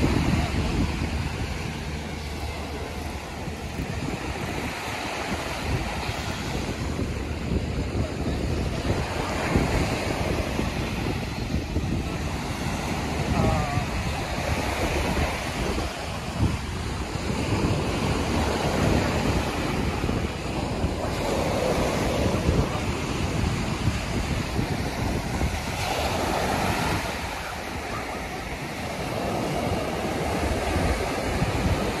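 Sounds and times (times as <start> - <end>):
ocean surf breaking on beach: 0.0 - 32.0
wind buffeting microphone: 0.0 - 32.0.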